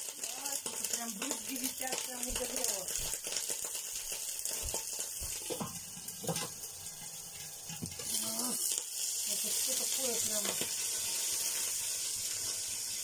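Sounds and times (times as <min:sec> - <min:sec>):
hot oil sizzling in a frying pan: 0:00.0 - 0:13.0.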